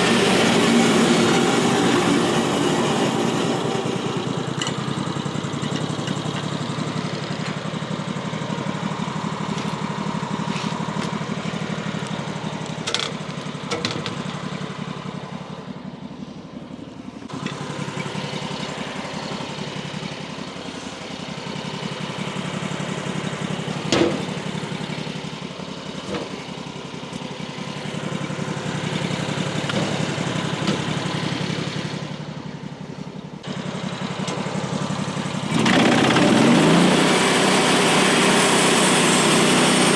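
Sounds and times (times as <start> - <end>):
sawmill gasoline engine running: 0.0 - 39.9.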